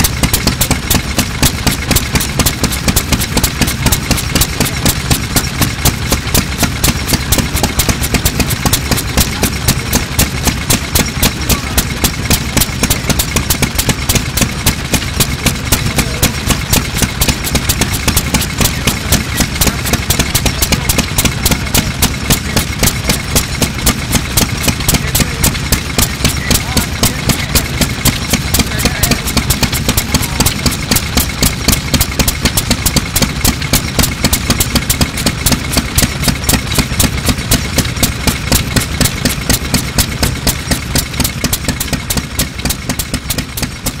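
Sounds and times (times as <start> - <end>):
stationary engine exhaust beating: 0.0 - 44.0.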